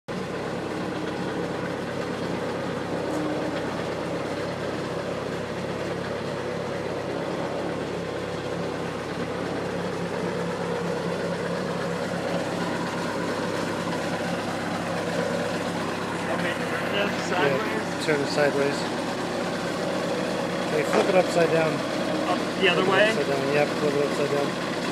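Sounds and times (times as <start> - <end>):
vehicle engine running steadily: 0.1 - 24.9.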